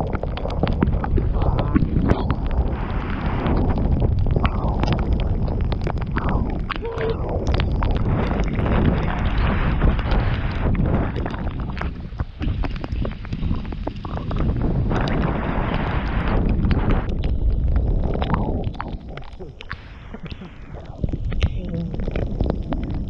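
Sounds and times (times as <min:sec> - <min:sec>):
bike tyres rolling rumble: 0:00.0 - 0:23.0
wind buffeting microphone: 0:00.0 - 0:23.0.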